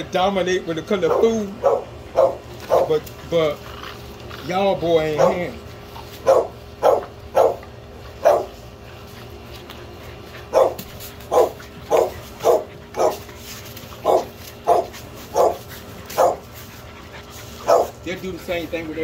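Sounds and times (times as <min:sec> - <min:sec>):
puppies barking: 0:00.9 - 0:03.3, 0:04.5 - 0:08.8, 0:10.2 - 0:19.0.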